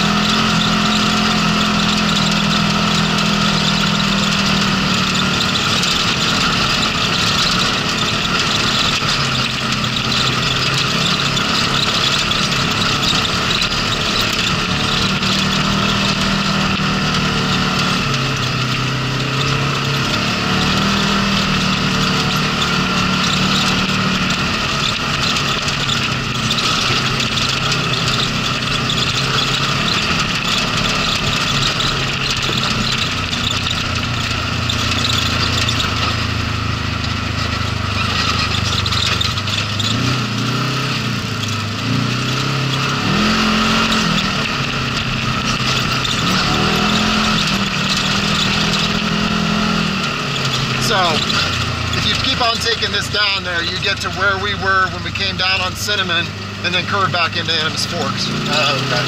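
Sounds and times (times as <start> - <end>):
tyre and road noise: 0.0 - 59.0
vehicle engine running: 0.0 - 59.0.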